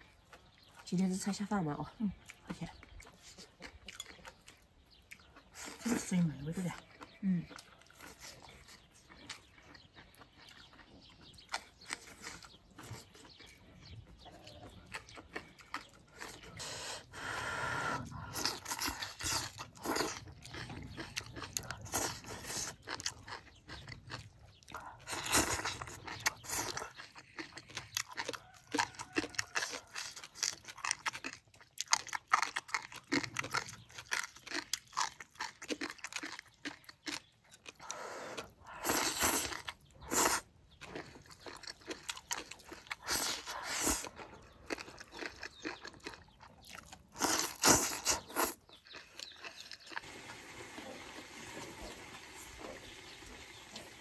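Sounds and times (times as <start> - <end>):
close-up chewing: 0.0 - 54.0.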